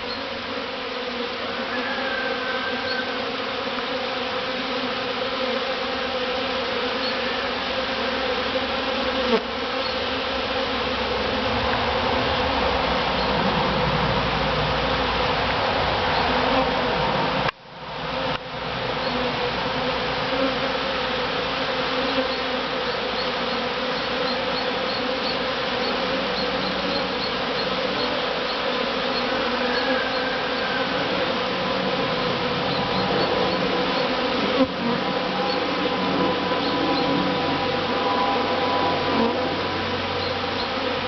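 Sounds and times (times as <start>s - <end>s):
bee swarm buzzing: 0.0s - 41.0s.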